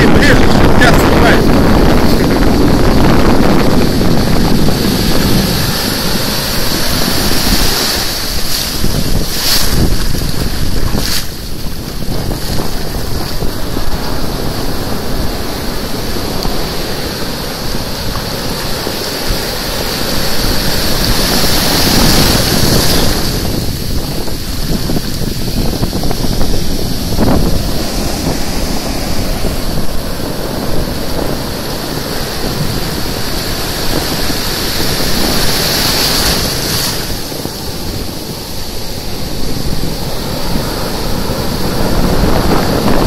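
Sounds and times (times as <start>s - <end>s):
ocean surf breaking: 0.0s - 43.0s
wind buffeting microphone: 0.0s - 43.0s.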